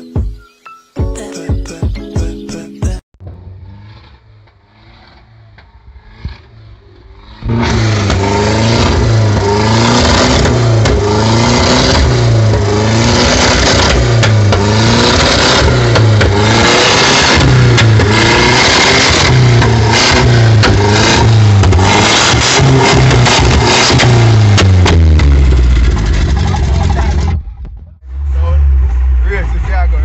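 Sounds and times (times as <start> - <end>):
car engine revving: 3.2 - 30.0.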